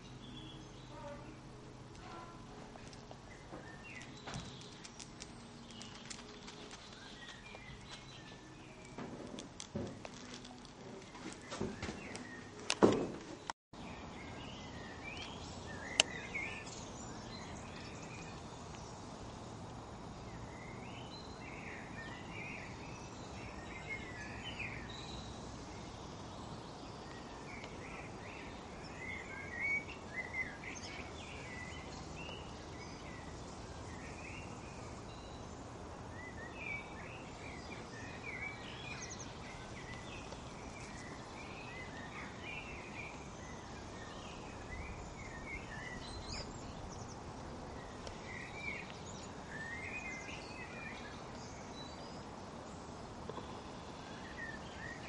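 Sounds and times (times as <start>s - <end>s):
small birds chirping and singing: 0.0s - 55.0s
steady outdoor hiss: 0.0s - 55.0s.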